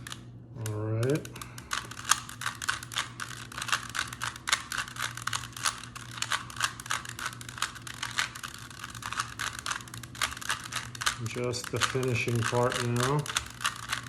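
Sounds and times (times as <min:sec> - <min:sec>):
plastic puzzle cube clicking: 0:00.0 - 0:14.0.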